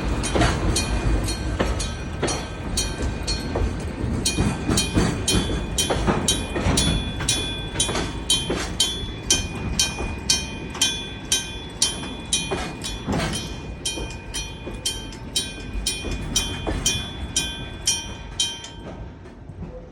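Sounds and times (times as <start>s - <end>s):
level-crossing bell ringing: 0.0s - 19.5s
freight train rumble: 0.0s - 19.9s.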